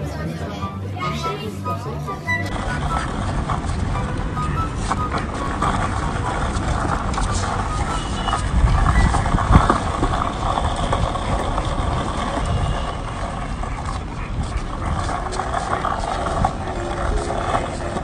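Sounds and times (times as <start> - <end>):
skateboard wheels rolling on paving: 2.5 - 18.0.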